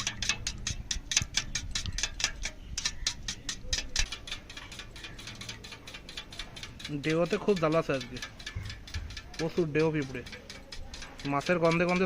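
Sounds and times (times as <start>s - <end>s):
utensil clicking against bowl: 0.0s - 12.0s.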